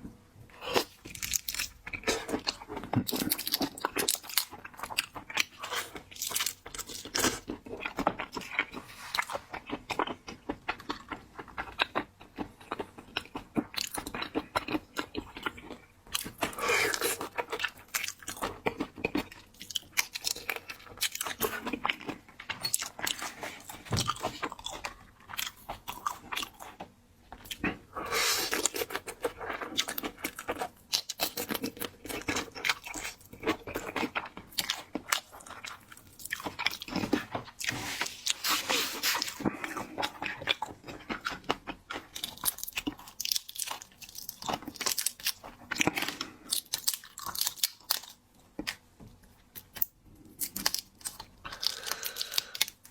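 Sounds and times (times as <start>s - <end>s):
chewing and crunching food: 0.5s - 52.9s.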